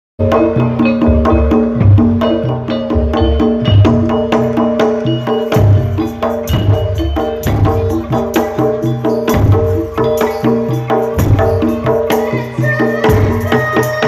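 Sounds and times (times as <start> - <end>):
hand drum rhythm: 0.2 - 14.0.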